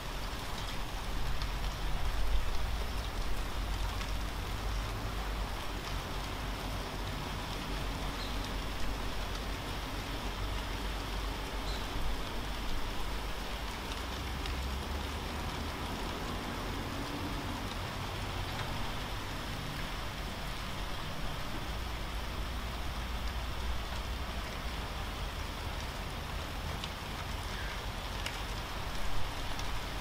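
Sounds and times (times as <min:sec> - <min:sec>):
rain falling steadily: 0:00.0 - 0:30.0.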